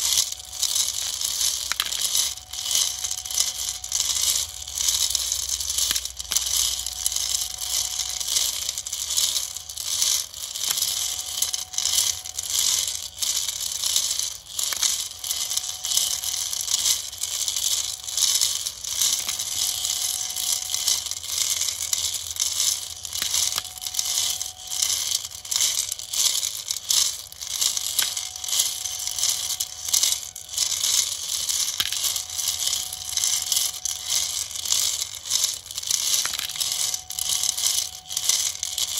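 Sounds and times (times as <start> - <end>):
faint motor tone: 0.0 - 38.9.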